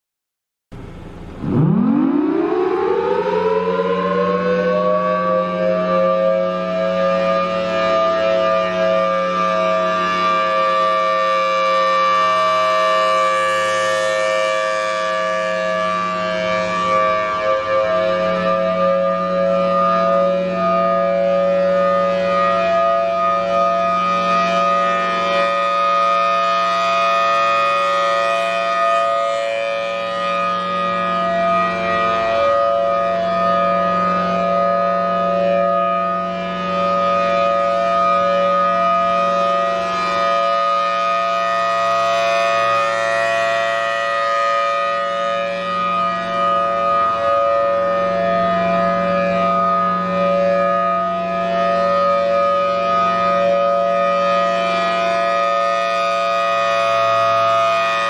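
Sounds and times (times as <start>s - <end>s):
warning siren two tones: 0.7s - 58.0s.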